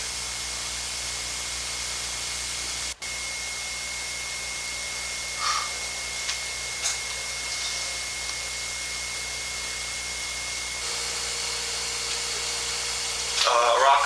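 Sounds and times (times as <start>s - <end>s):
thin high whine: 0.0s - 14.0s.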